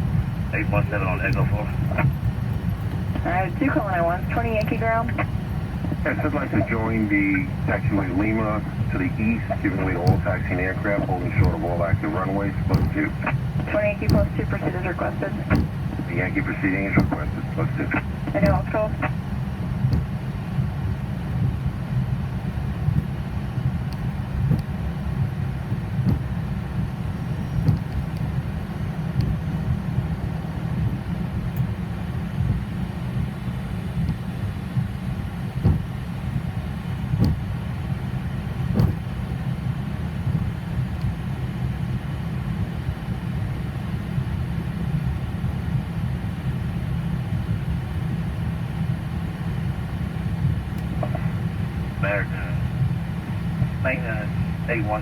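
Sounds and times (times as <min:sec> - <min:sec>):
idling jet engines rumbling: 0:00.0 - 0:55.0.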